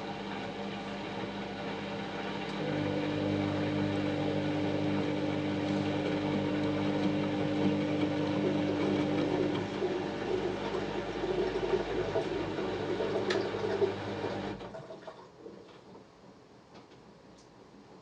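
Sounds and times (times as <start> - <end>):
washing machine motor humming: 0.0 - 15.1.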